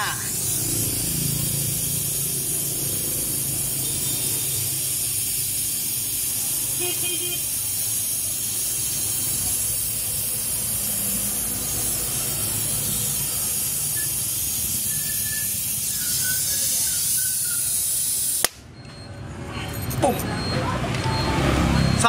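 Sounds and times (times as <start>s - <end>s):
torch flame hissing: 0.0s - 18.5s.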